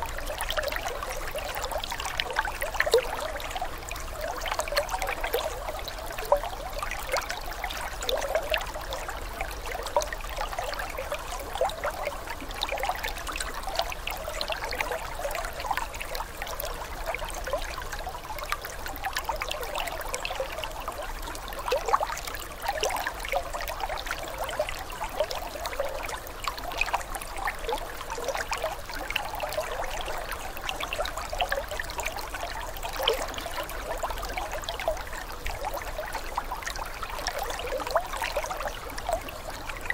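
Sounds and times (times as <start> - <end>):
aquarium water trickling and splashing: 0.0 - 39.9.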